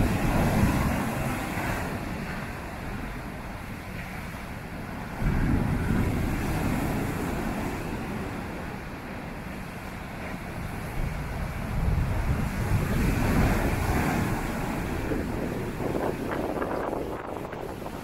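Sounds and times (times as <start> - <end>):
surf crashing on beach: 0.0 - 18.0
wind buffeting microphone: 0.0 - 18.0.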